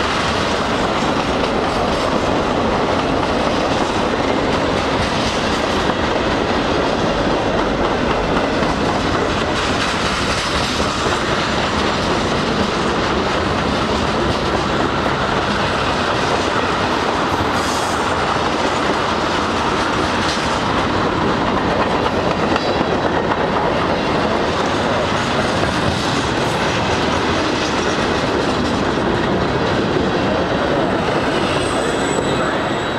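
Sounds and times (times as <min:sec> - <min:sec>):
freight train wheels clattering: 0:00.0 - 0:32.9.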